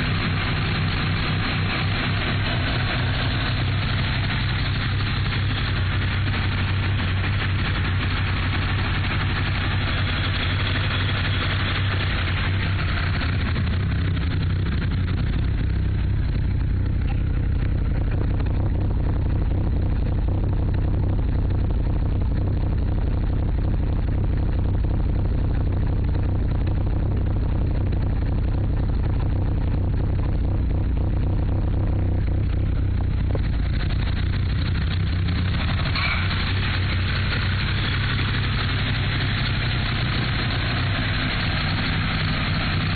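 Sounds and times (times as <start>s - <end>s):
car engine rough idle: 0.0s - 42.9s.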